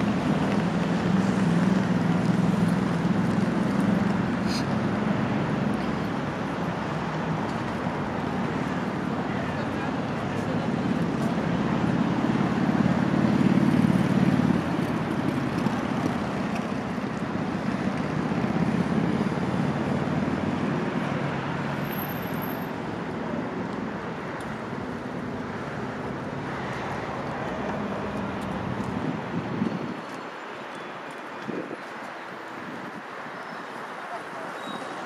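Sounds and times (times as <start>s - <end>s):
cars passing with rumble: 0.0s - 35.0s.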